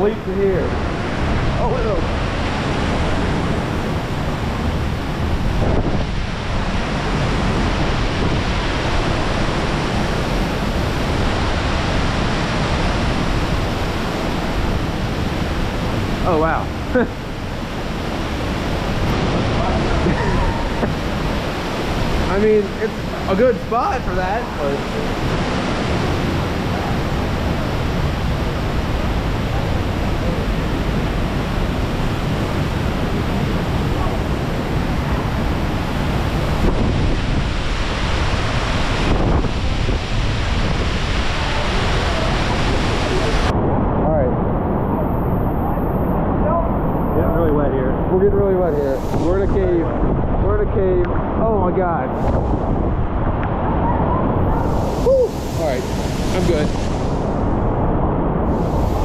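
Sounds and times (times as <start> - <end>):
stream rushing over stones: 0.0 - 43.5, 51.5 - 57.7
waterfall roaring: 0.0 - 59.0
wind buffeting microphone: 0.0 - 59.0.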